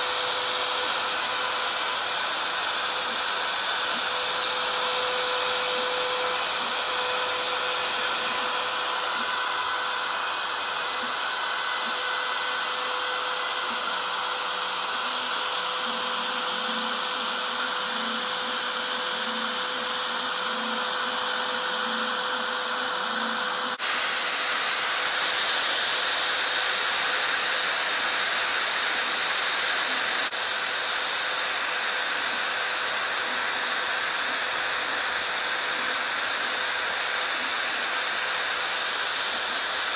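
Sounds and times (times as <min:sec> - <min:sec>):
router spindle cutting aluminium: 0:00.0 - 0:39.9.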